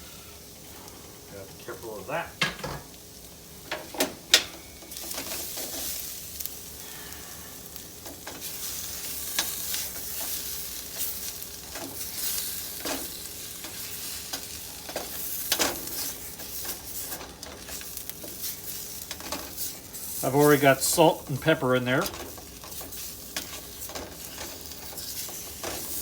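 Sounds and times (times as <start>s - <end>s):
onions sizzling in a pan: 0.0s - 26.0s.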